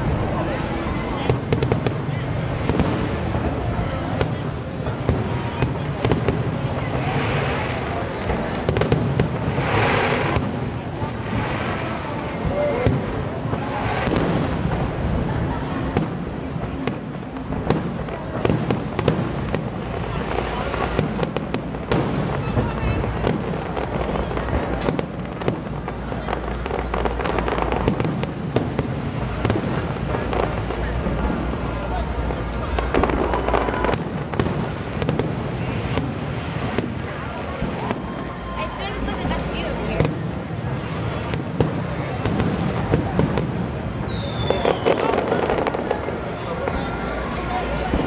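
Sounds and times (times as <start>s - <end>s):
sharp firework bangs: 0.0s - 38.2s, 39.2s - 48.0s.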